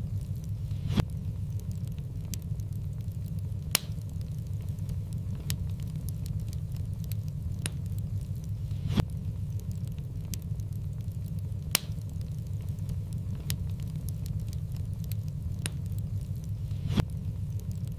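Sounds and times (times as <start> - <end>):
wood fire crackling and popping: 0.0 - 17.9.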